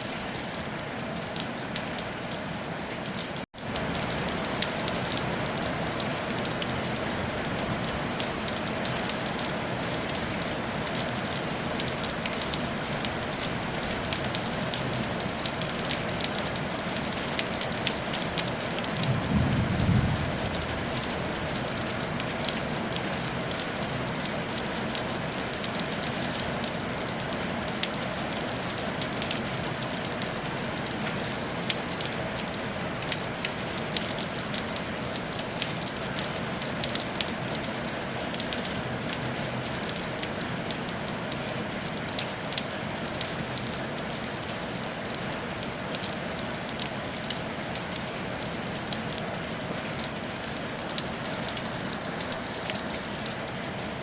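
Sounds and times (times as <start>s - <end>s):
rain on a tile roof: 0.0s - 54.0s.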